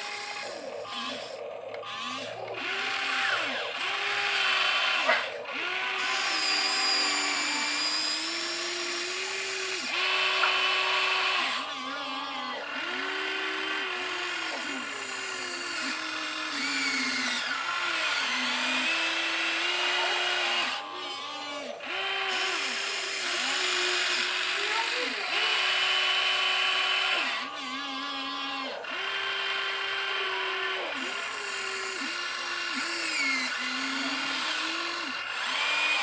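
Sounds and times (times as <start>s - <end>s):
small electric motors whining: 0.0s - 36.0s.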